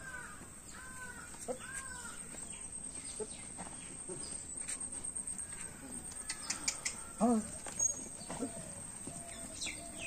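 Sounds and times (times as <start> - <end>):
birds calling and chirping: 0.0 - 10.0.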